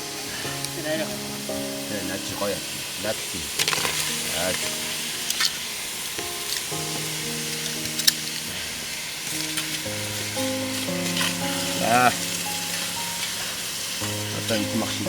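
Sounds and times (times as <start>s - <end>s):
crackling hiss: 0.0s - 15.0s
music of long held notes: 0.0s - 15.0s.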